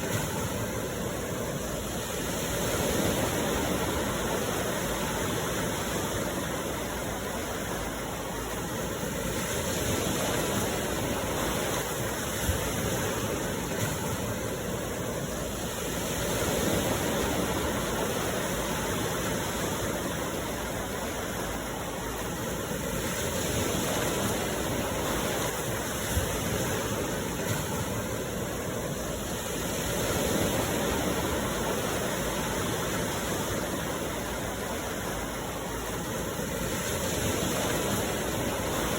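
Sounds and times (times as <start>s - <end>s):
sea surf washing onto shore: 0.0s - 38.9s.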